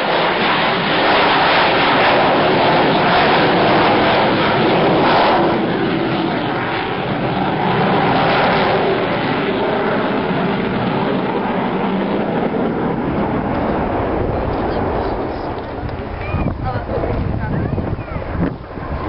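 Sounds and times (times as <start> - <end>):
aircraft engine flying past: 0.0 - 19.0.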